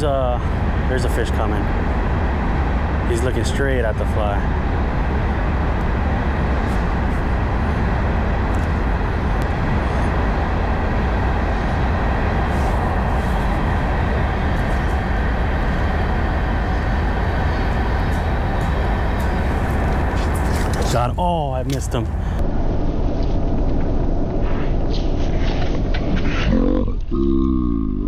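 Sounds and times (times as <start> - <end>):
low rumbling background noise: 0.0 - 28.0.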